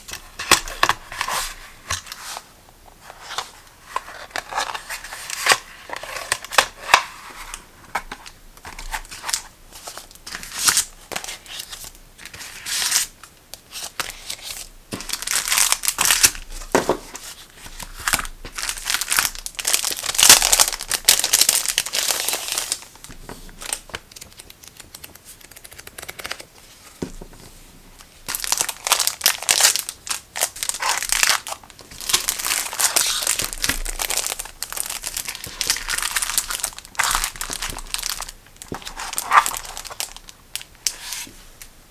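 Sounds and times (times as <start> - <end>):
plastic packaging crinkling: 3.1 - 26.5, 28.2 - 41.3.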